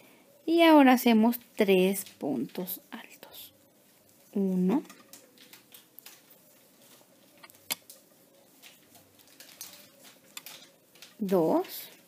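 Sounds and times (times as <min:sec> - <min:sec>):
crochet hook rustling through yarn: 0:01.0 - 0:12.0.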